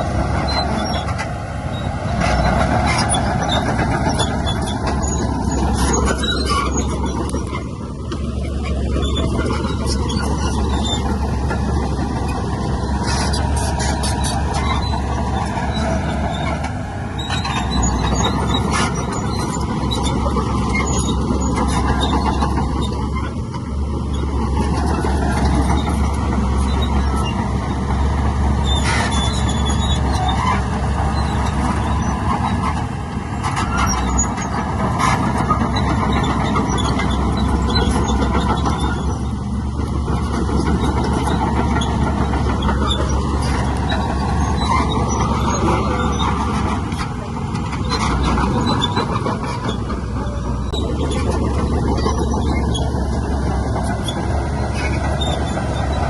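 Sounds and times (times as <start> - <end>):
diesel machinery running: 0.0 - 56.0
metallic clanks and squeals: 0.0 - 56.0.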